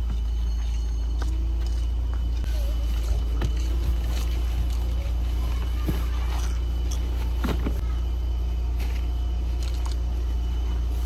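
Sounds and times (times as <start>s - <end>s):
car engine idling: 0.0s - 11.0s
knocks of bags and crates loaded: 0.0s - 11.0s.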